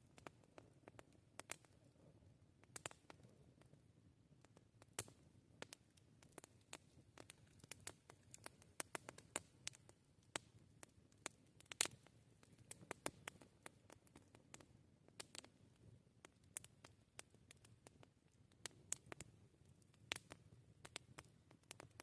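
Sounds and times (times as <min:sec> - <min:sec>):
campfire crackling: 0:00.0 - 0:22.0
faint low background noise: 0:00.0 - 0:22.0.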